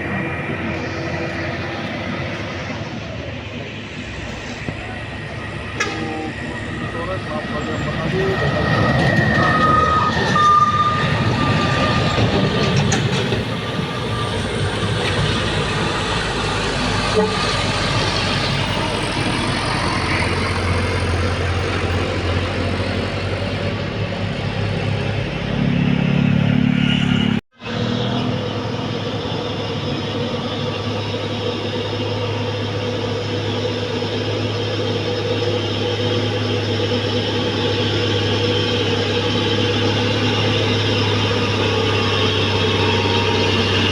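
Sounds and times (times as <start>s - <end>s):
high engine whine: 0.0s - 43.9s
truck engine rumbling: 0.0s - 43.9s.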